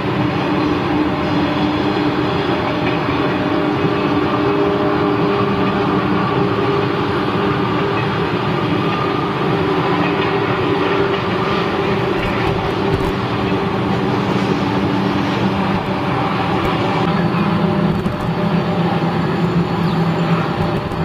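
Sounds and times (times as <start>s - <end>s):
electric train rolling past: 0.0s - 21.0s.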